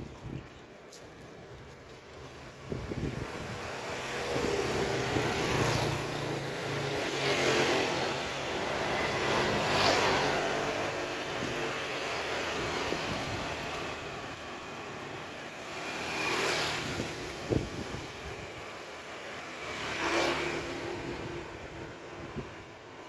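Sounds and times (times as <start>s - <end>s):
vehicles passing on a street: 0.0s - 23.0s.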